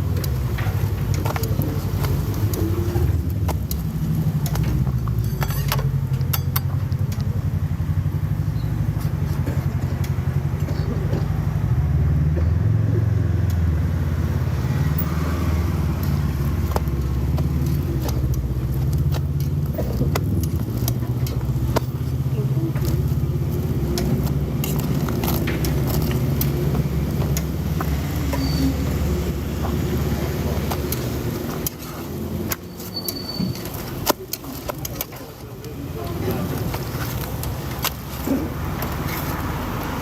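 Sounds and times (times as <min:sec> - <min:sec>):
road vehicle rumble: 0:00.0 - 0:40.0.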